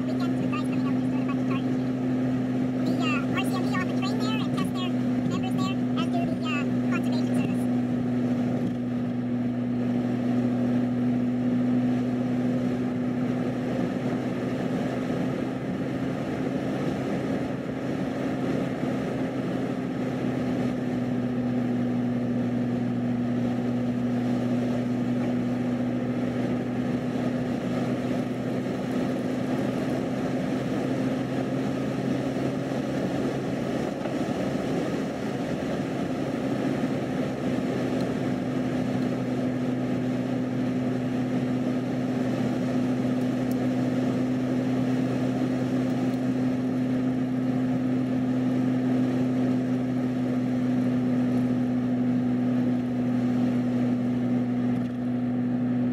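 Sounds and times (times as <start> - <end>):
car engine and tyre drone: 0.0 - 55.9.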